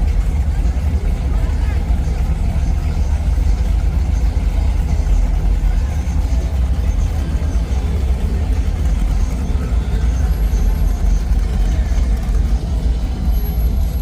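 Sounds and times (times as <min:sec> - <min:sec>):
traffic engines rumbling: 0:00.0 - 0:14.0.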